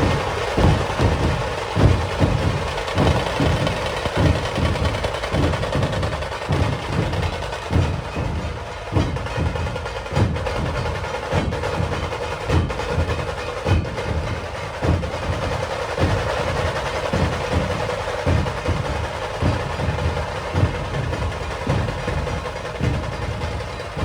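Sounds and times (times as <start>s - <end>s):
continuous rattle of drumming: 0.0s - 24.0s
deep drum strikes: 0.0s - 24.0s.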